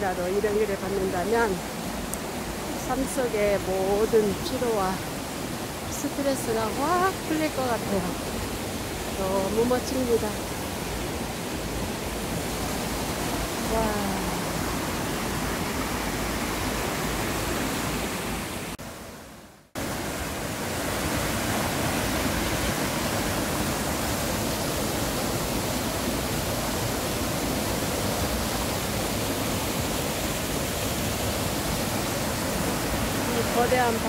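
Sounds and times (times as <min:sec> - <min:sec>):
stream rushing over rapids: 0:00.0 - 0:34.0.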